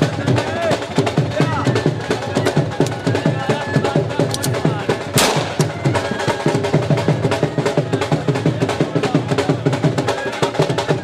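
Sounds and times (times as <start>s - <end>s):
drums in fast rhythm: 0.0s - 11.0s.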